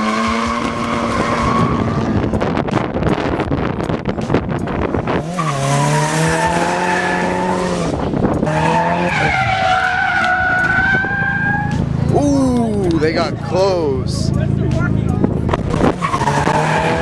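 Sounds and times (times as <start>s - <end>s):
car engine at high revs: 0.0s - 17.0s
engine crackling: 0.0s - 17.0s.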